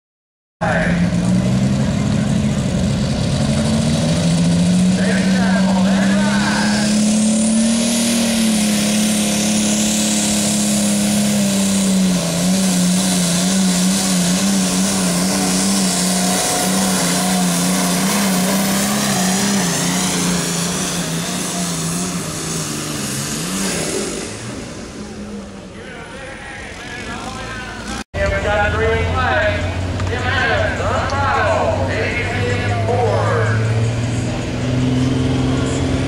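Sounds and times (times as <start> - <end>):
tractor engine at full throttle: 0.6 - 36.0.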